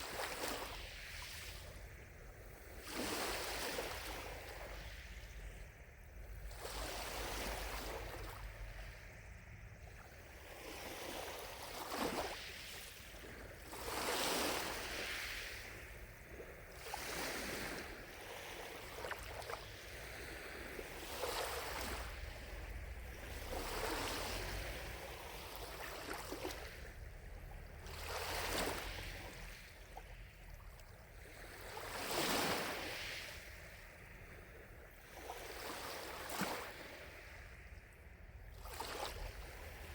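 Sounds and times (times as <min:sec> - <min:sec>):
lake waves lapping at shore: 0:00.0 - 0:39.9.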